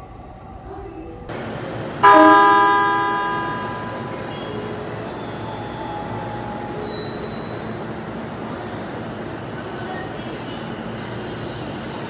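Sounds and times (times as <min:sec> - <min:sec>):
electric train rumble: 0:00.0 - 0:12.0
faint whining from train drive: 0:00.0 - 0:12.0.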